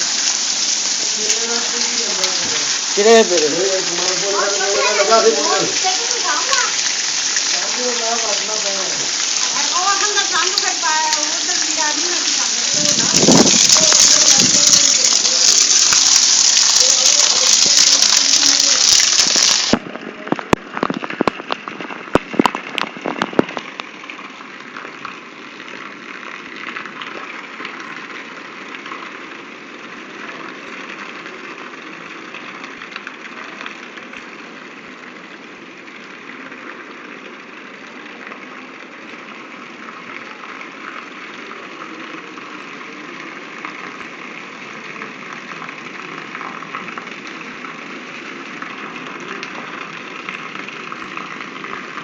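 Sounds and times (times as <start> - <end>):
heavy rain rushing: 0.0 - 52.0.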